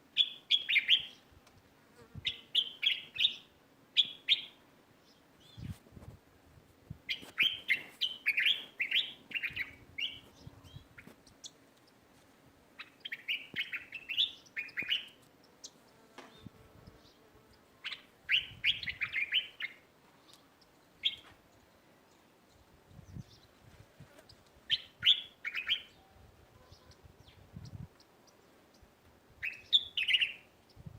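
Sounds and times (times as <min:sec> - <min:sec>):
small birds chirping: 0:00.1 - 0:05.8, 0:07.0 - 0:30.9.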